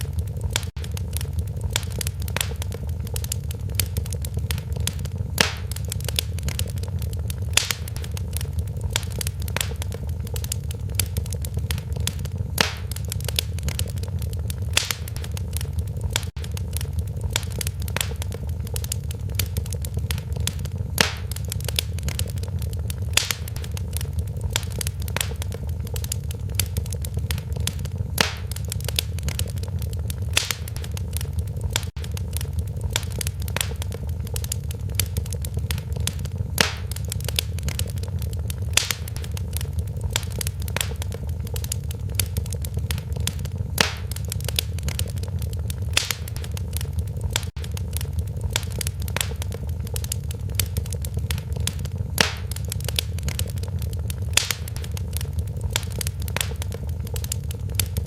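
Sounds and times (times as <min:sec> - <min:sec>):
fire popping: 0:00.0 - 0:58.0
low rumble: 0:00.0 - 0:58.0
wood fire crackling: 0:00.0 - 0:58.0.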